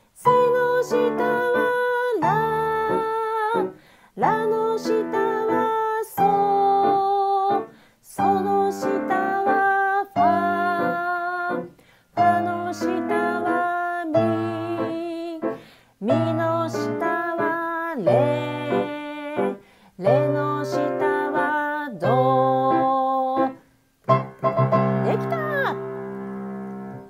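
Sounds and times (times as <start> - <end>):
person singing: 0.2 - 23.6
piano music: 0.2 - 27.0.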